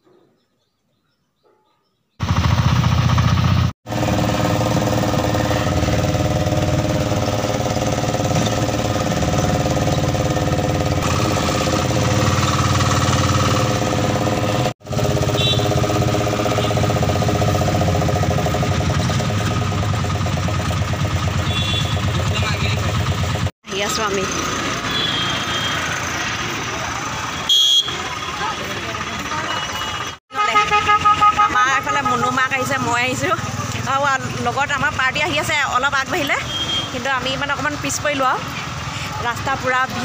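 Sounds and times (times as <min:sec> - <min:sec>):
bus engine drone and rattle: 0:03.4 - 0:27.4, 0:28.0 - 0:36.4, 0:37.0 - 0:40.0.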